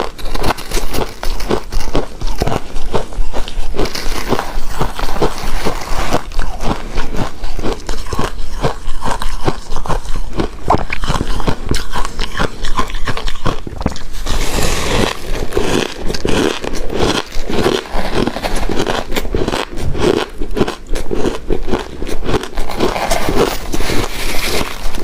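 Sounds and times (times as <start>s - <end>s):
person chewing shaved ice: 0.0s - 25.0s.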